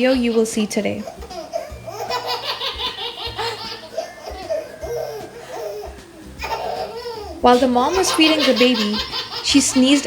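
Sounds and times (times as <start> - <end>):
baby laughing: 0.0 - 10.0.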